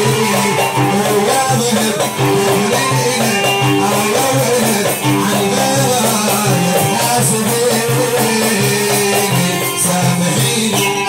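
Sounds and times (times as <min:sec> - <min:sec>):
hand drums: 0:00.0 - 0:11.0
oud playing: 0:00.0 - 0:11.0.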